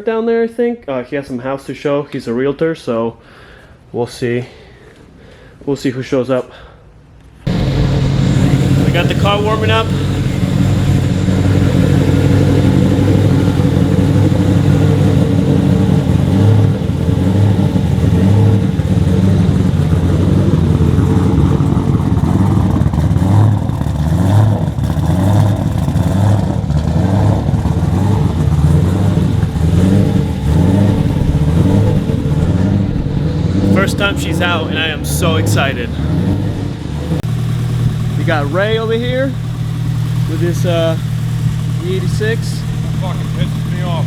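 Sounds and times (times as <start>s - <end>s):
car engine idling: 7.5s - 44.0s.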